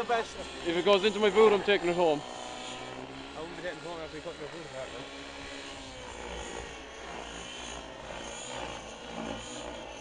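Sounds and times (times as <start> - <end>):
model helicopter rotor whine: 0.0 - 10.0.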